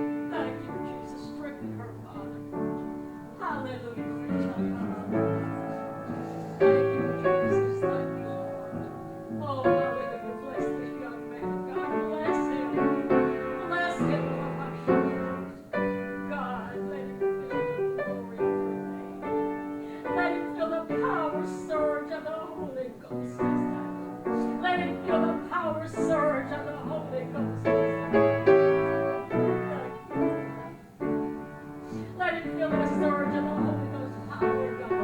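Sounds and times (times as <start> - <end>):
piano playing slow chords: 0.0 - 35.0.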